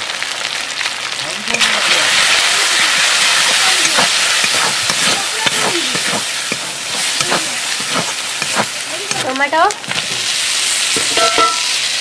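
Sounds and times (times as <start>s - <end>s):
onions sizzling in hot oil: 0.0s - 12.0s
spatula scraping a pan: 1.6s - 11.6s.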